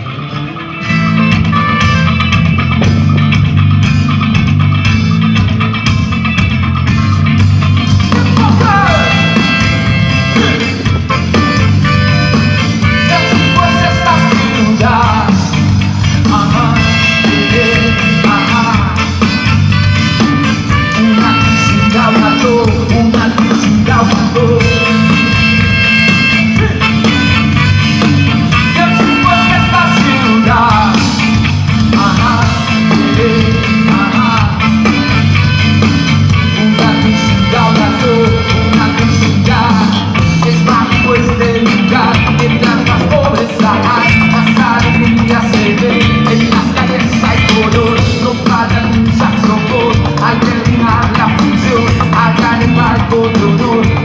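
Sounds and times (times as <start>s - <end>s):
ska-rock band playing live: 0.0s - 54.0s.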